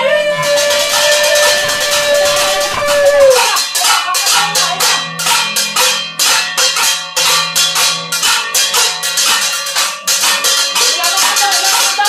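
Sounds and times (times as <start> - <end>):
music with fast beat: 0.2 - 12.0
pots and pans struck with utensils: 0.3 - 12.0.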